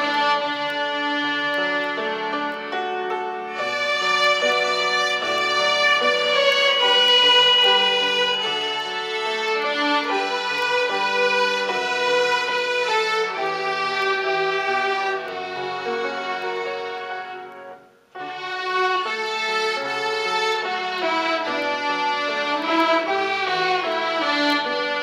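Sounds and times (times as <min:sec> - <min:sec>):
violins playing slow hymn: 0:00.0 - 0:25.0.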